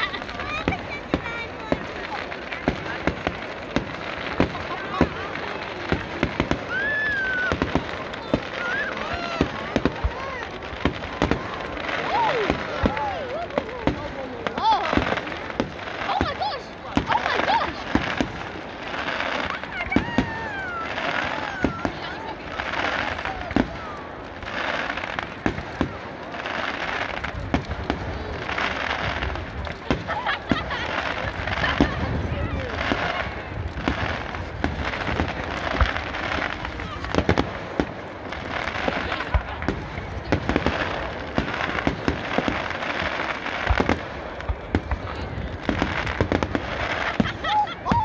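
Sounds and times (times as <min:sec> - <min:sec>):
crowd voices: 0:00.0 - 0:48.0
fireworks bangs: 0:00.0 - 0:48.0.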